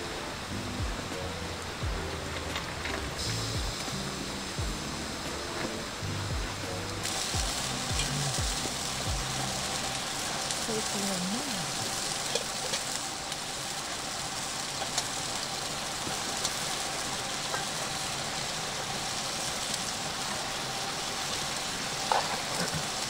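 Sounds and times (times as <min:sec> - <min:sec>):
food sizzling on a griddle: 0:00.0 - 0:23.0.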